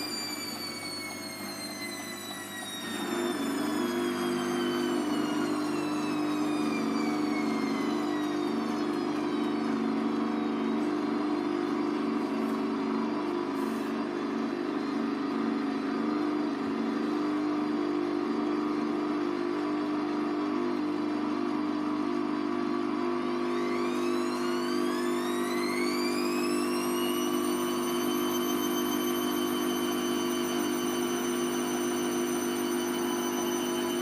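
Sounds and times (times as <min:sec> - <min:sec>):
high motor whine: 0:00.0 - 0:34.0
washing machine hum: 0:00.0 - 0:34.0.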